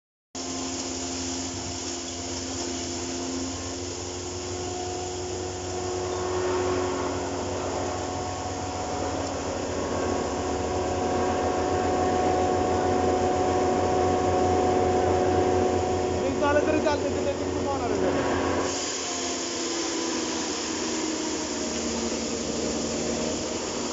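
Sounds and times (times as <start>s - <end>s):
electric grinder motor hum: 0.4s - 23.9s
rush of blown air: 2.9s - 23.9s.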